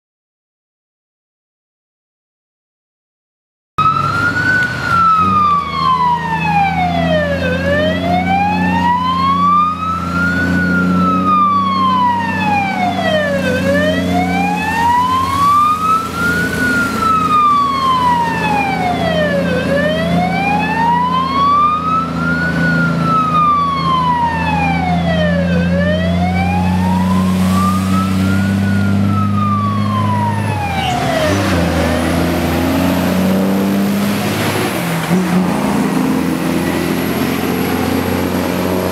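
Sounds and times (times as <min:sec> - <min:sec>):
low drone of diesel engines: 0:03.8 - 0:38.9
slow wailing siren: 0:03.8 - 0:38.9.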